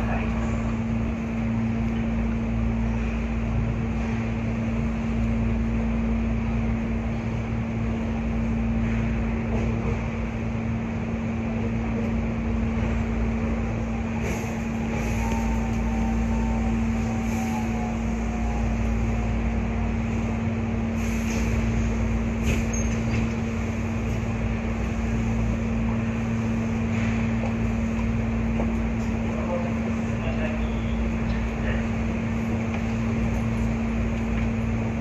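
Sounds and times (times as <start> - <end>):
train equipment hum: 0.0 - 35.0.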